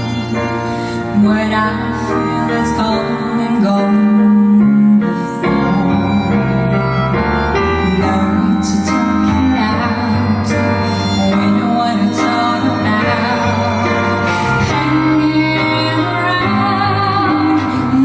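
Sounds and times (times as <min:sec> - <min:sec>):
harmonica melody: 0:00.0 - 0:18.0
piano accompaniment: 0:00.0 - 0:18.0.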